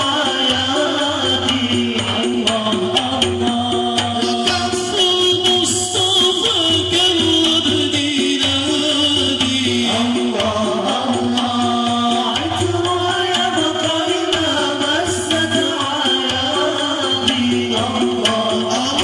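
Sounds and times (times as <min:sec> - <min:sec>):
devotional singing over loudspeaker: 0:00.0 - 0:19.0
hand drum percussion: 0:00.0 - 0:19.0.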